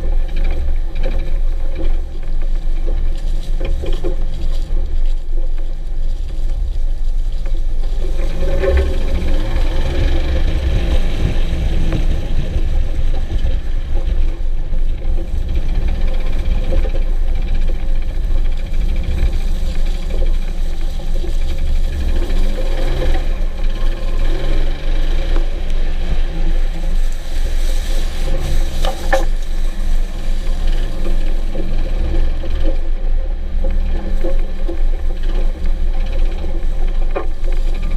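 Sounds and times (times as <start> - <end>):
car engine running: 0.0 - 37.9
engine knock: 0.0 - 37.9.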